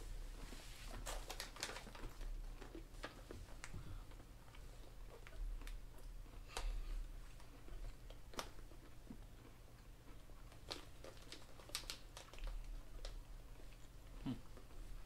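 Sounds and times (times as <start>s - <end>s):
low steady hum: 0.0s - 15.0s
peanuts being chewed: 1.0s - 15.0s.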